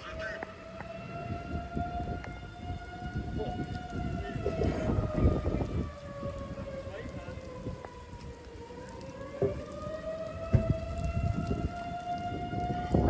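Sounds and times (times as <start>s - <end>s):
tornado siren wailing: 0.0s - 13.0s
wind rumble on microphone: 0.1s - 13.0s.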